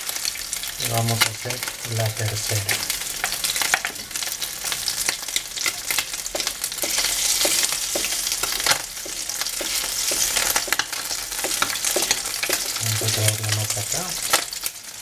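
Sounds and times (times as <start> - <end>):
food frying in hot oil: 0.0 - 15.0
sharp crackles and pops: 0.0 - 15.0.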